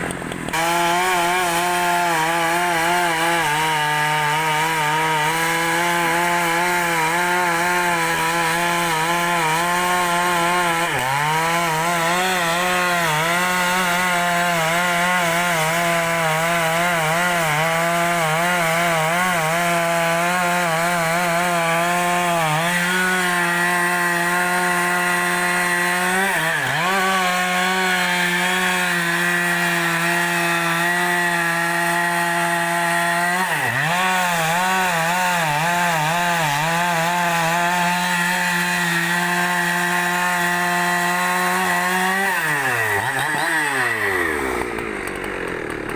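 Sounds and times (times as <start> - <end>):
chainsaw cutting a log: 0.0 - 45.9.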